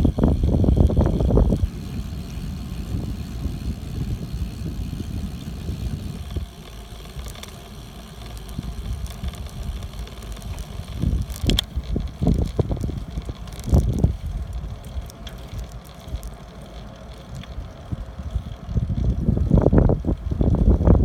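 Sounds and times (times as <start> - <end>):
sharp clicks or rattles: 0.0 - 17.8
bicycle riding noise: 0.0 - 21.0
wind rumbling on microphone: 0.0 - 21.0.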